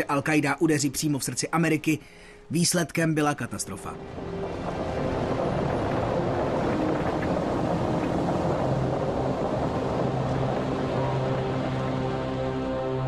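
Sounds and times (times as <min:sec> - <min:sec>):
soft sustained music notes: 0:00.0 - 0:13.0.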